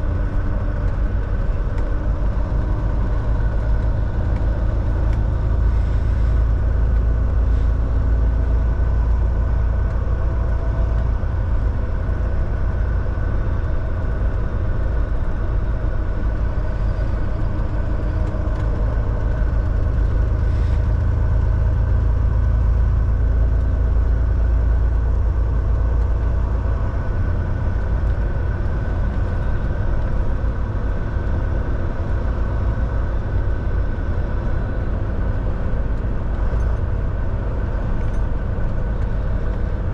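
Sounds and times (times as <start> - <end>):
steady high whine: 0.0 - 39.9
truck diesel engine droning: 0.0 - 39.9.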